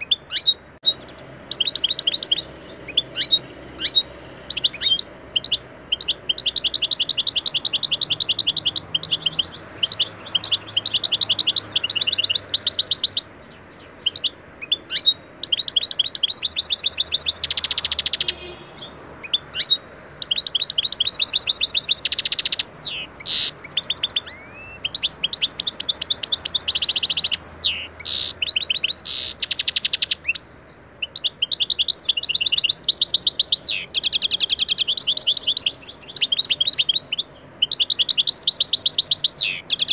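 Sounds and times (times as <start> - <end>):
goldfinch singing: 0.0 - 39.9.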